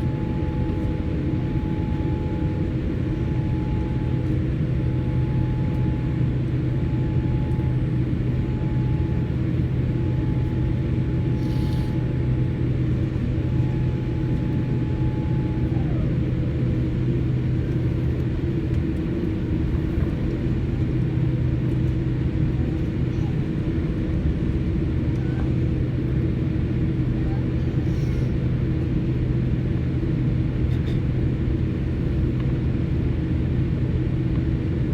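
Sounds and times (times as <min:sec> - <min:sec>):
jet airliner cabin rumble: 0:00.0 - 0:34.9.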